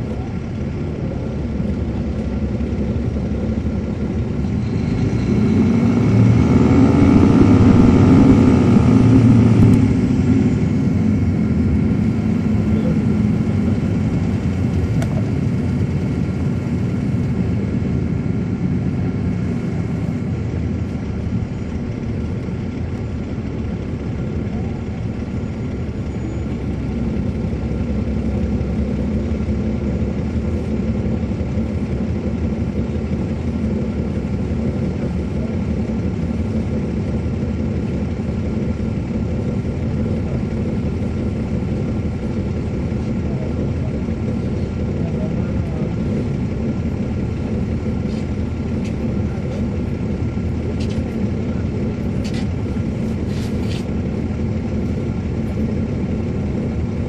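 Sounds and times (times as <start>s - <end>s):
diesel bus engine drone: 0.0s - 57.0s.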